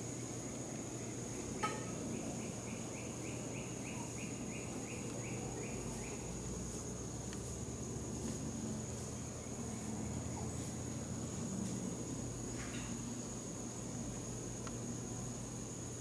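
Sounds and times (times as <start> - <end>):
insects droning: 0.0 - 16.0
rhythmic insect chirping: 0.0 - 16.0.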